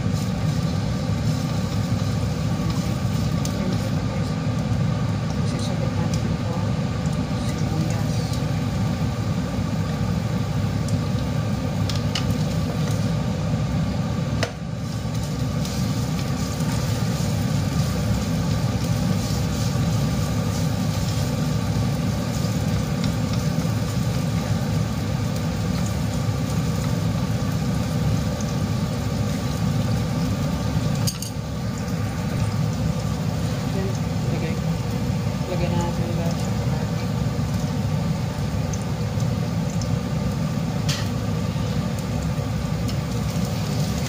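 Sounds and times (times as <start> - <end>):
steady low hum: 0.0 - 44.0
vegetables sizzling in a pan: 0.0 - 44.0.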